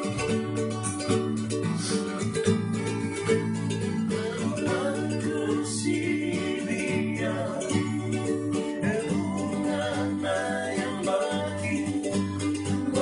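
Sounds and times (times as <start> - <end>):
acoustic guitar strumming: 0.0 - 13.0
ukulele strumming: 0.0 - 13.0
men singing: 1.6 - 13.0.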